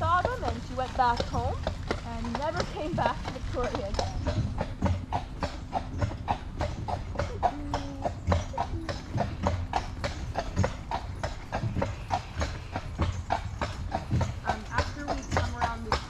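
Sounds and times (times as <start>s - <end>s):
horse hooves clip-clopping: 0.0s - 16.0s.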